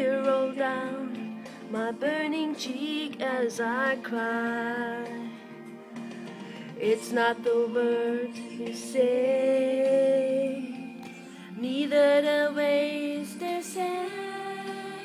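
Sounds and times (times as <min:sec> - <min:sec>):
woman singing slow melody: 0:00.0 - 0:05.8, 0:06.7 - 0:15.0
soft musical accompaniment: 0:00.0 - 0:15.0.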